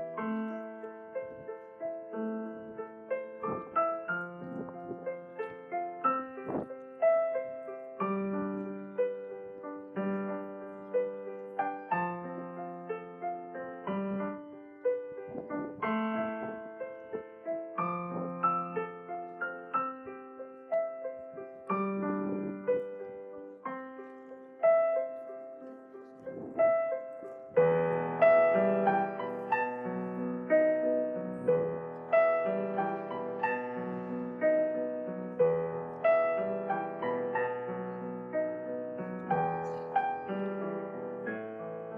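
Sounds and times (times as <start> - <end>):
slow gentle piano piece: 0.0 - 41.9.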